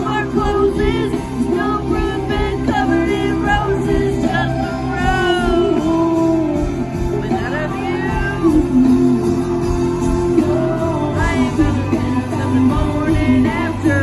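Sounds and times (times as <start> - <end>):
live country band playing: 0.0 - 14.0
person singing: 0.0 - 14.0.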